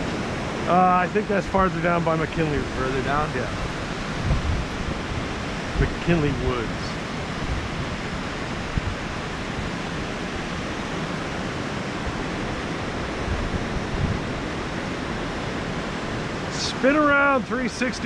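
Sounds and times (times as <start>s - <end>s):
wind buffeting microphone: 0.0s - 17.1s
river water churning over rapids: 0.0s - 18.0s.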